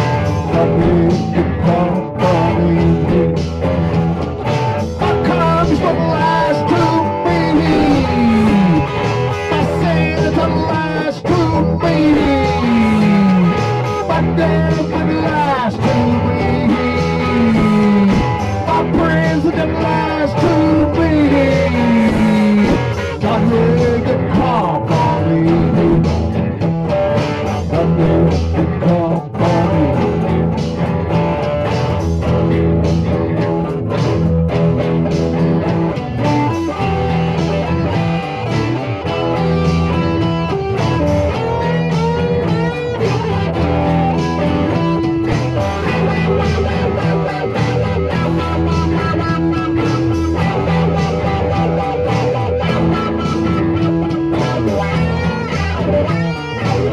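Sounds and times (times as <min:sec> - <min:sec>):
blues-rock band with guitar: 0:00.0 - 0:56.9.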